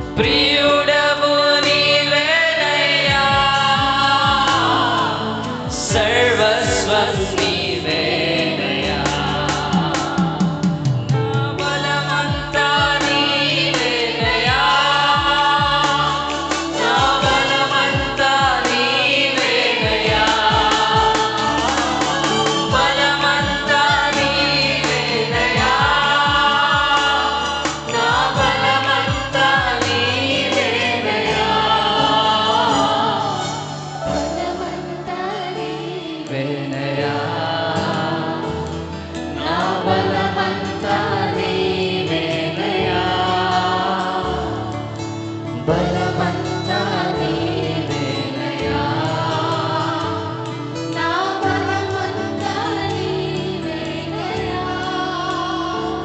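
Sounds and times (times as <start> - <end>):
group singing worship song: 0.0 - 56.0
instrumental accompaniment: 0.0 - 56.0.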